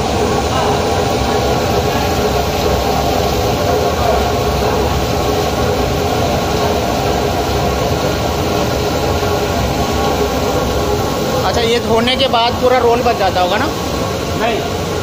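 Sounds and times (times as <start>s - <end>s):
mechanical hum: 0.0s - 15.0s
water pouring and splashing: 0.0s - 15.0s.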